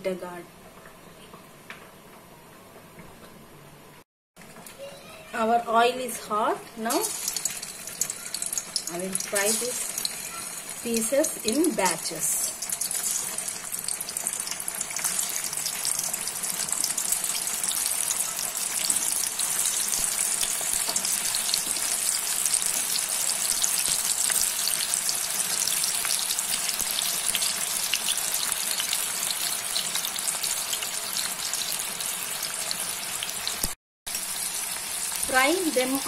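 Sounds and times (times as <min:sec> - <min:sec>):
vegetable slices frying in oil: 0:05.1 - 0:36.0.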